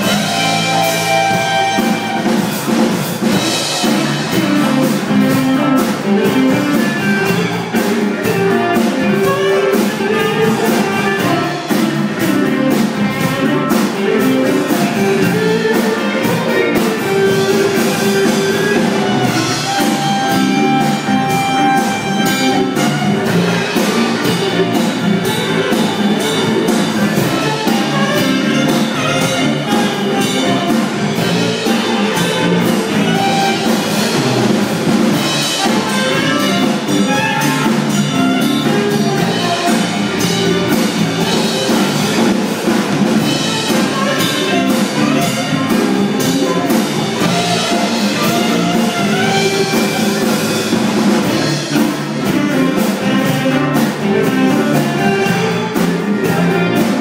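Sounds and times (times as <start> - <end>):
live rock band: 0.0 - 57.0
saxophone lead melody: 0.0 - 57.0.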